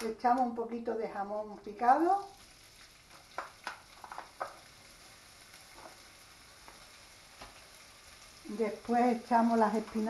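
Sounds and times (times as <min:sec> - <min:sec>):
meat sizzling in a frying pan: 0:01.8 - 0:10.0.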